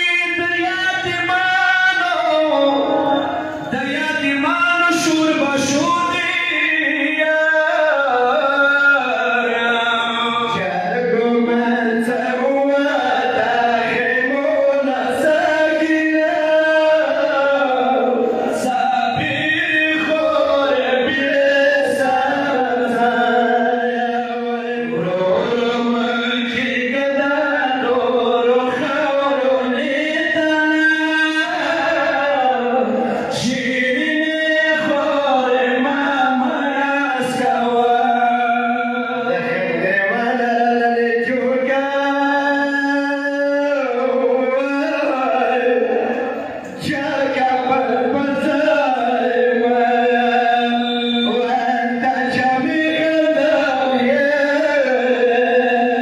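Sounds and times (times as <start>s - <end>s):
man chanting: 0.0s - 56.0s.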